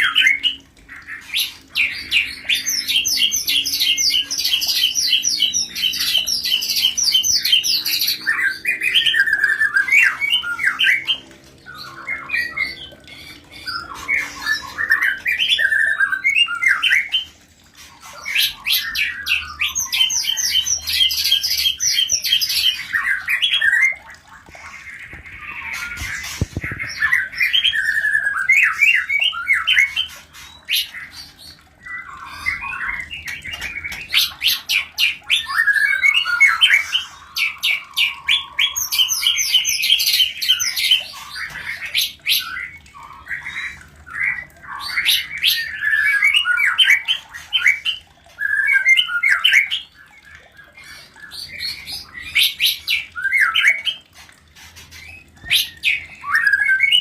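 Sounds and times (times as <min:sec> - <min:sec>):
birds chattering and squawking: 0:00.0 - 0:57.0.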